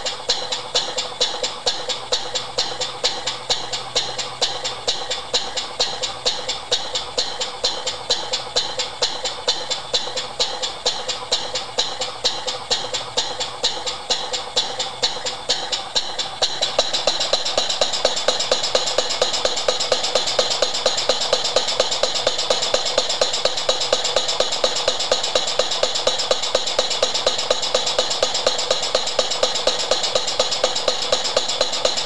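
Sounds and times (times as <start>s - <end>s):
model steam engine chuffing: 0.0s - 32.0s.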